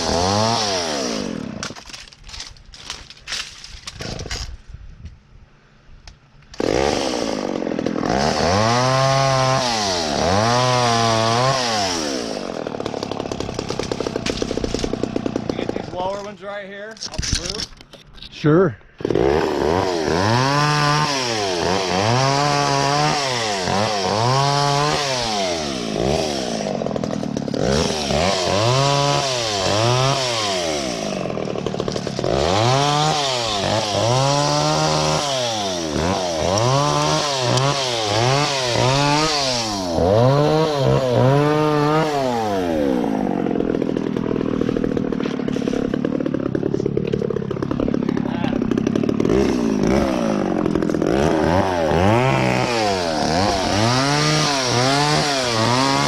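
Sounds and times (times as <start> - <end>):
chainsaw revving: 0.0 - 3.0, 6.6 - 16.3, 19.0 - 56.0.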